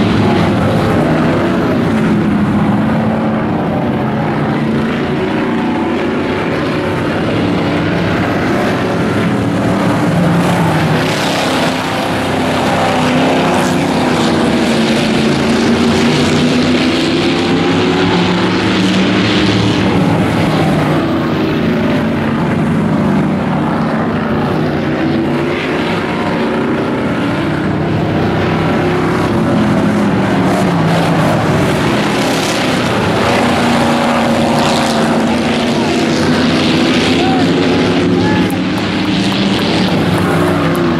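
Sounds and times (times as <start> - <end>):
racing truck engines revving: 0.0 - 40.9.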